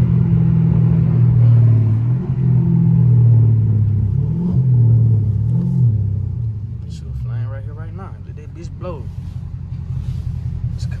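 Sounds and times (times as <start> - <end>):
car exhaust droning at low revs: 0.0 - 11.0.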